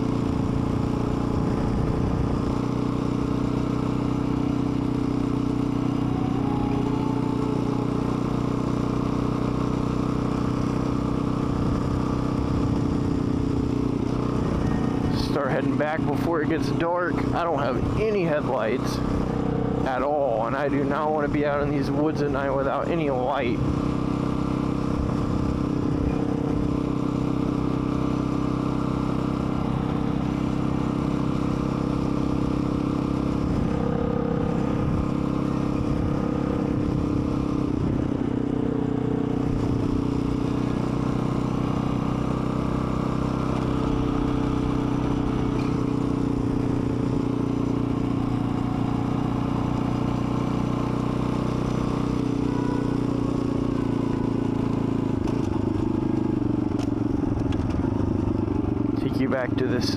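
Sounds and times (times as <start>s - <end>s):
dirt bike engine droning: 0.0s - 59.9s.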